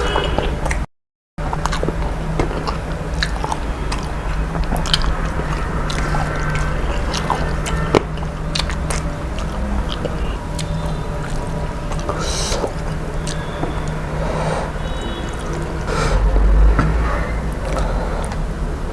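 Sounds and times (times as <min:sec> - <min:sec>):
person chewing food: 0:01.4 - 0:18.5
steady low hum: 0:01.4 - 0:18.9.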